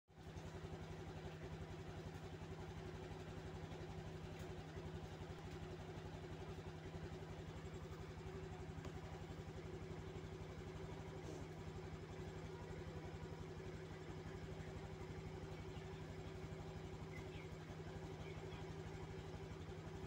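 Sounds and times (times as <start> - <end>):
motorbike engine idling: 0.2 - 20.0.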